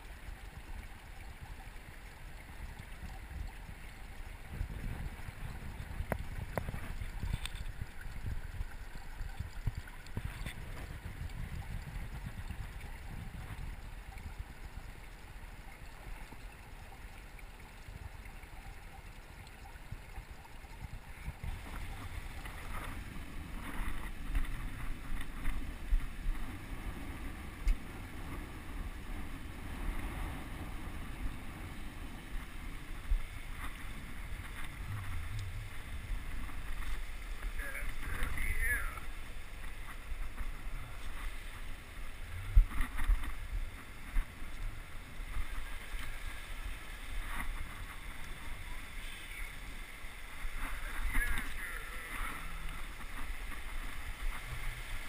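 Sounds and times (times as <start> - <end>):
muffled underwater stream rushing: 0.0 - 55.0.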